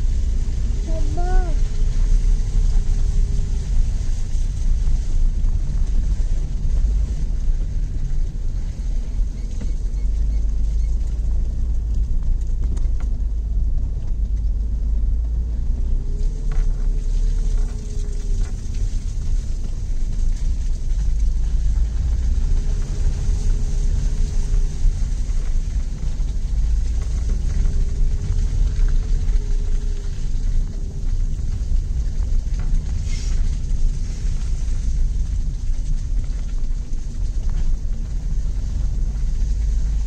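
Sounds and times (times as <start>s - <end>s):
car rumbling over dirt track: 0.0s - 40.0s.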